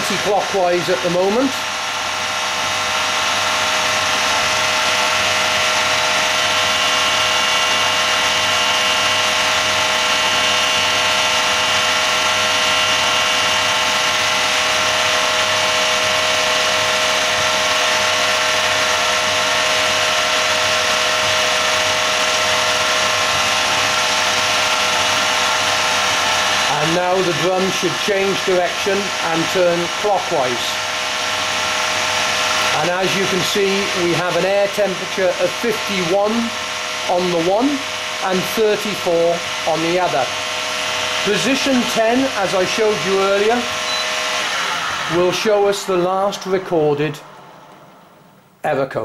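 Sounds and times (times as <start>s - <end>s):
drum motor turning drum: 0.0s - 48.6s
dryer fan motor whining: 0.0s - 48.6s.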